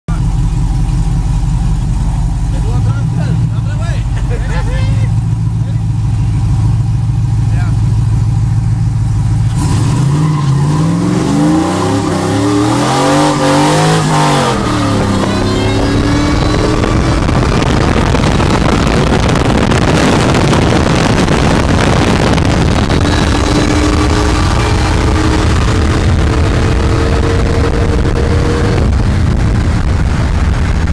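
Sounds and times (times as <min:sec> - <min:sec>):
car engines at full throttle: 0:00.1 - 0:30.9
wind and road noise: 0:00.1 - 0:30.9.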